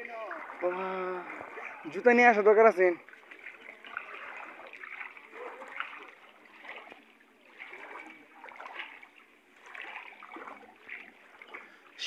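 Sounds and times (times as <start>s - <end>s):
feet wading through water: 0.0s - 12.0s.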